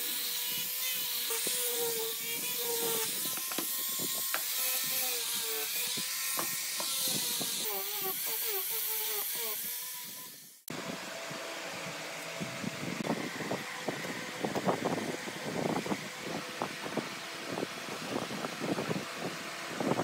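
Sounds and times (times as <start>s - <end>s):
angle grinder motor whine: 0.0s - 19.9s.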